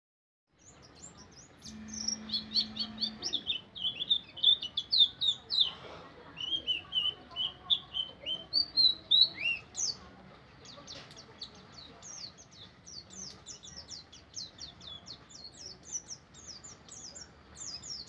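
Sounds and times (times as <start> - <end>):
bird chirping and twittering: 0.6 - 18.0.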